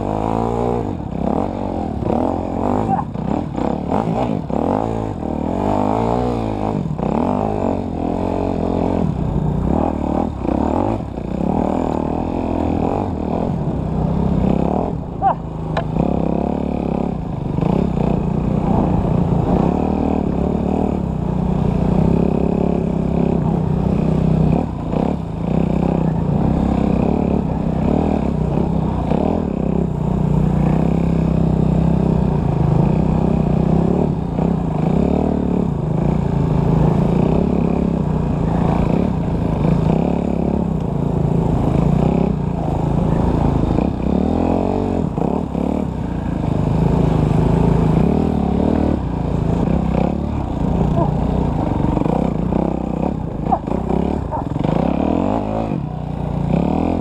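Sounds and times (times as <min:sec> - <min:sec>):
dirt bike engine revving: 0:00.0 - 0:57.0
bike knocking and rattling over bumps: 0:02.0 - 0:55.0.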